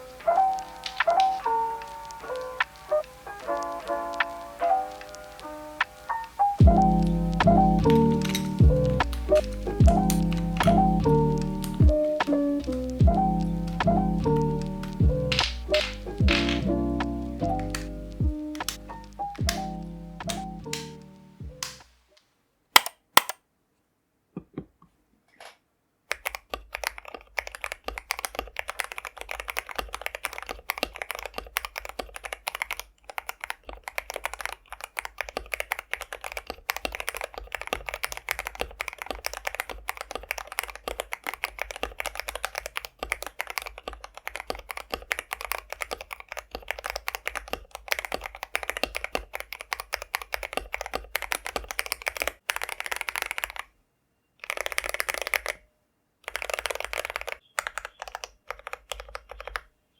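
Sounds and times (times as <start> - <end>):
mechanical keyboard typing: 5.9 - 21.8, 26.1 - 53.7, 54.4 - 55.6, 56.2 - 59.7.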